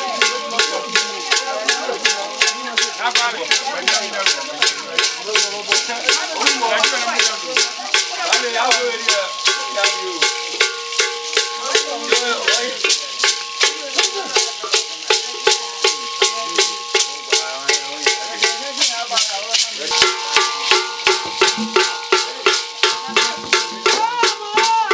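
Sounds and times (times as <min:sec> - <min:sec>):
rattle shaken in a beat: 0:00.0 - 0:24.9.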